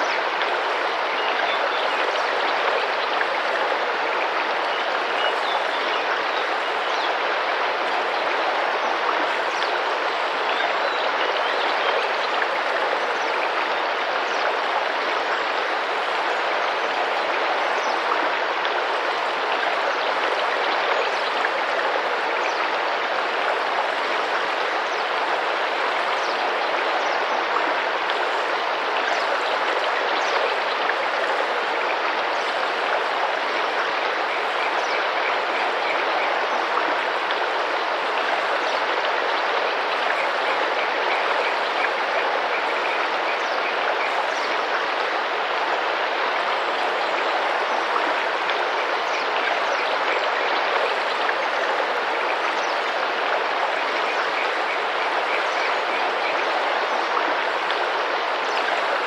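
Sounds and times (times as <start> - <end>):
river water running and splashing: 0.0 - 59.0.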